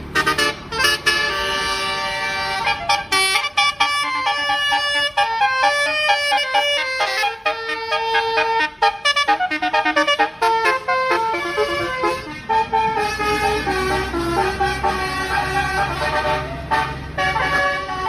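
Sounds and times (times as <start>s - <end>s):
musical bus horns playing tune: 0.0s - 18.0s.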